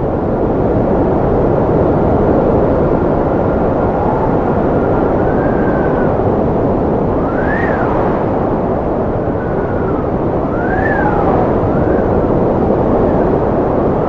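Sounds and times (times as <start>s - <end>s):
strong wind whistling: 0.0s - 14.0s.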